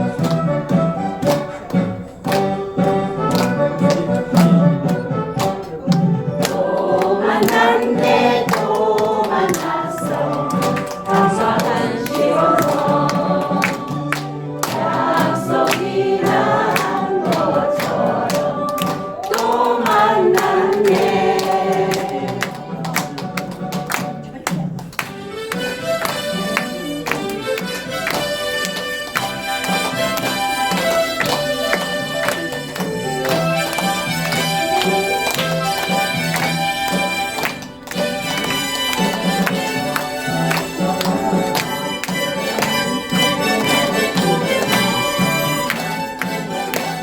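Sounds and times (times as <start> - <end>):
harmonica ensemble playing: 0.0 - 24.4, 25.1 - 47.0
backing track with steady beat: 0.0 - 47.0.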